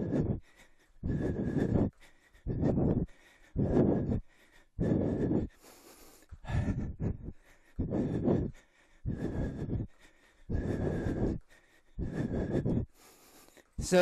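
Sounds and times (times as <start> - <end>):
man breathing hard: 0.0 - 14.0.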